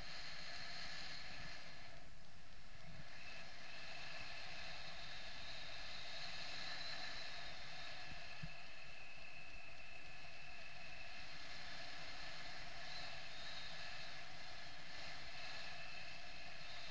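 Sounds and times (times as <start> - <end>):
faint steady tones: 0.0 - 16.9.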